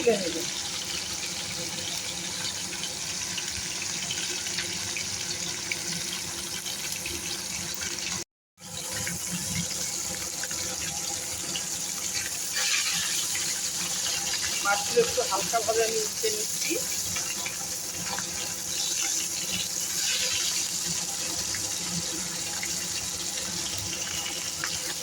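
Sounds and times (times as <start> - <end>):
fish frying in oil: 0.0 - 25.0.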